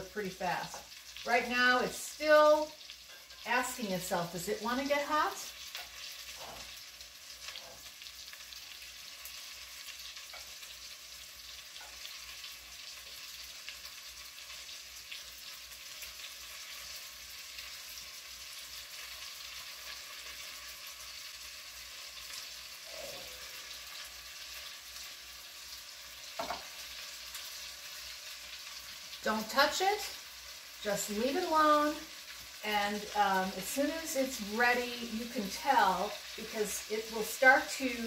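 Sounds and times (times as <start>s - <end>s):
meat sizzling in oil: 0.0s - 38.0s.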